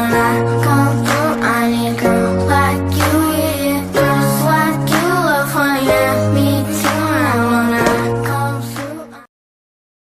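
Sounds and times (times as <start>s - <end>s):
pop music with singing: 0.0s - 9.3s.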